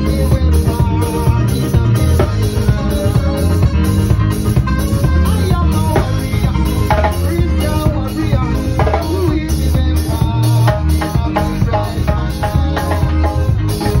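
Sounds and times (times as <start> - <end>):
bass guitar: 0.0 - 14.0
drum kit beat: 0.0 - 14.0.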